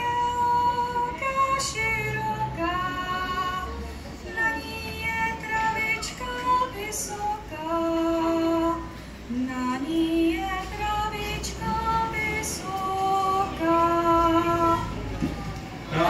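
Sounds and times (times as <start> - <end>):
woman singing folk melody: 0.0 - 15.0.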